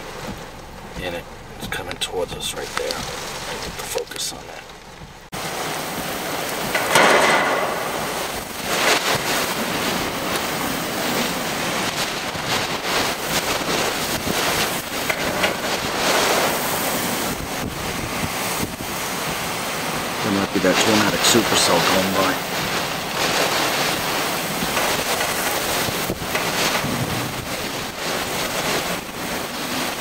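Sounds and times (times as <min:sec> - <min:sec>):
wind and rain: 0:00.0 - 0:30.0.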